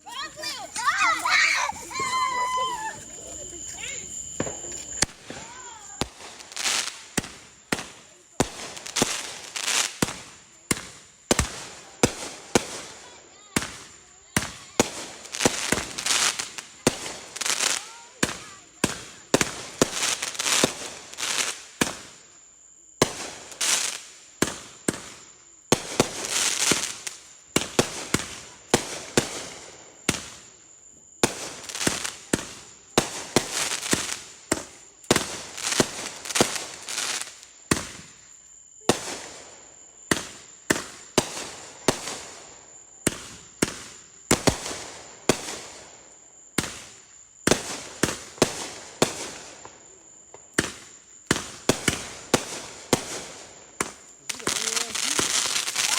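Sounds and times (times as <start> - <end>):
fireworks bangs: 0.0 - 22.2, 23.0 - 30.5, 31.2 - 38.2, 38.8 - 46.0, 46.6 - 49.8, 50.5 - 55.9
fireworks crackling and fizzing: 0.0 - 55.9.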